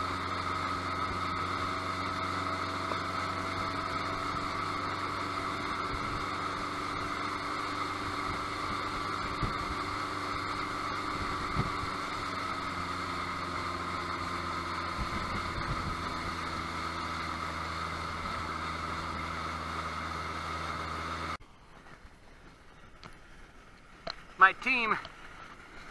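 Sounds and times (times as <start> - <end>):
water rushing from wake: 0.0 - 21.4
motorboat engine running: 0.0 - 25.9.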